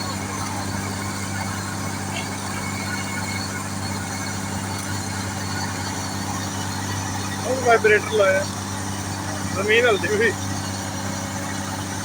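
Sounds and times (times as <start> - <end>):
construction machinery engine running: 0.0 - 12.0.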